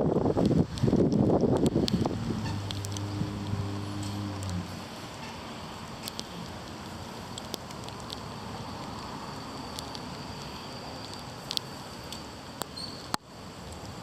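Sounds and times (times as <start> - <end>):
rain falling: 0.0 - 14.0
raindrops ticking close by: 0.0 - 14.0.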